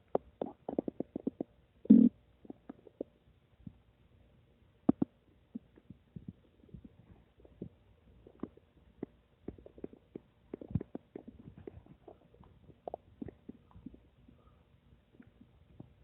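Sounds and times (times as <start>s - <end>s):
stomach gurgling and rumbling: 0.0s - 3.8s, 4.9s - 16.0s.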